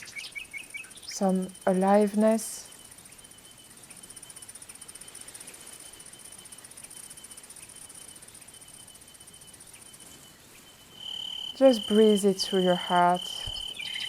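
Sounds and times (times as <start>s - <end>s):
crickets trilling: 0.0s - 14.0s
low short cricket chirp: 0.0s - 14.0s.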